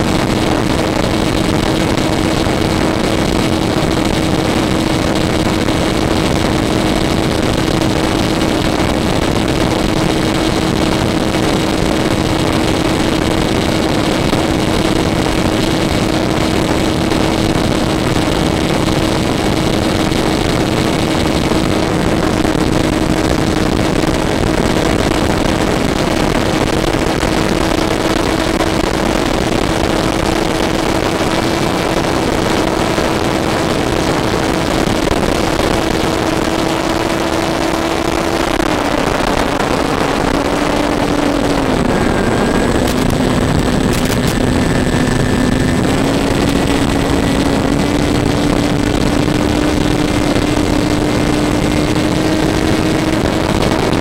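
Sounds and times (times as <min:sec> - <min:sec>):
model airplane motor and propeller: 0:00.0 - 0:54.0
wind on microphone: 0:00.0 - 0:54.0.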